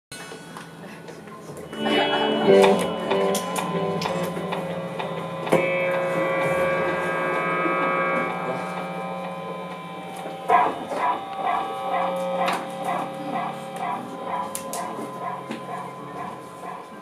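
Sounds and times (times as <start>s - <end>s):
electric guitar drone: 0.2s - 17.0s
guitar chord ringing: 0.2s - 17.0s
short repeated guitar notes: 1.6s - 17.0s.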